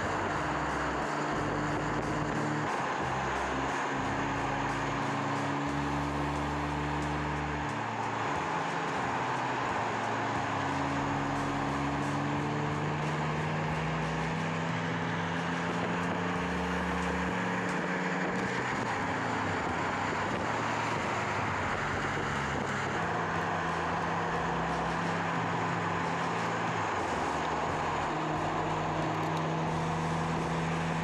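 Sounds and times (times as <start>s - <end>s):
car engine pulling: 0.0s - 31.0s.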